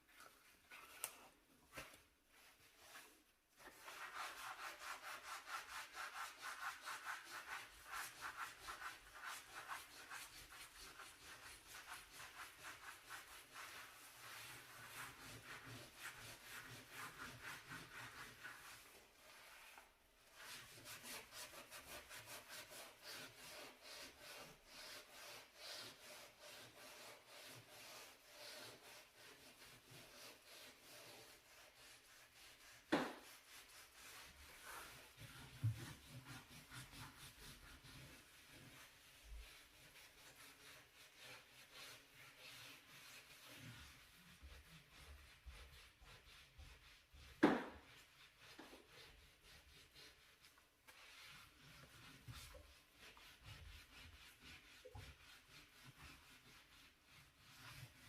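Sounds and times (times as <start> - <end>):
brush scrubbing a stovetop: 0.0 - 58.0.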